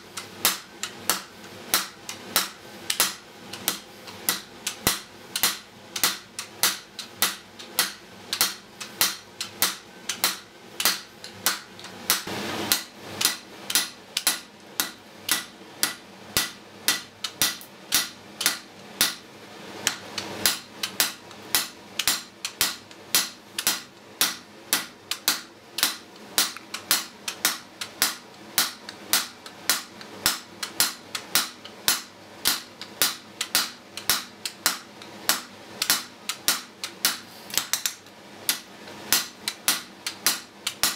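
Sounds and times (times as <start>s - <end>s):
hammer striking iron on anvil: 0.2s - 19.2s, 19.9s - 37.8s, 38.5s - 40.9s.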